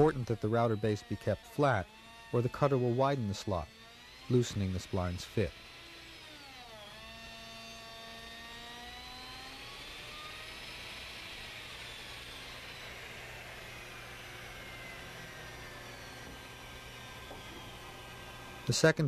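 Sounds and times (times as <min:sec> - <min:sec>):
electric router motor whine: 0:00.0 - 0:19.0.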